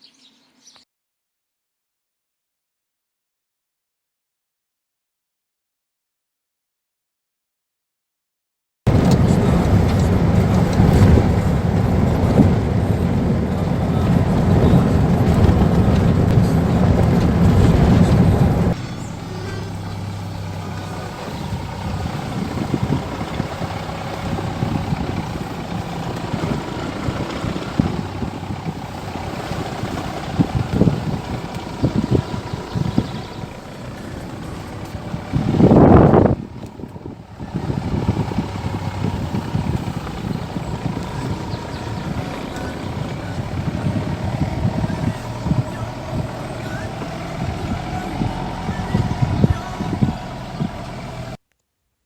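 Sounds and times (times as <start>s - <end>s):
car engine and road noise: 8.9s - 51.4s.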